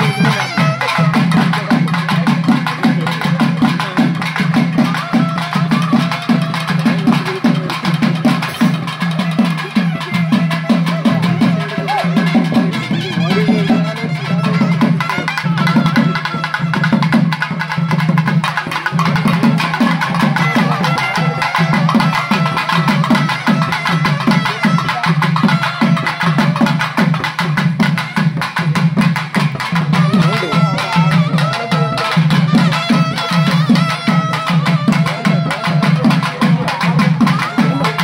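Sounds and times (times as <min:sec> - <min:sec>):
driving drum beat: 0:00.0 - 0:38.0
festival music: 0:00.0 - 0:38.0.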